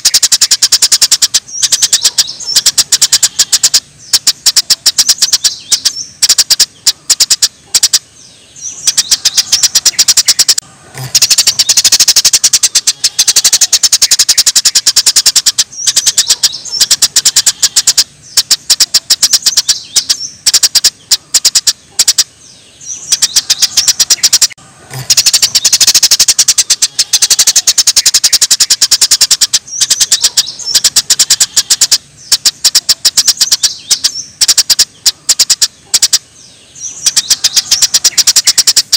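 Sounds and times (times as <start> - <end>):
songbird rapid song bursts: 0.0 - 38.9.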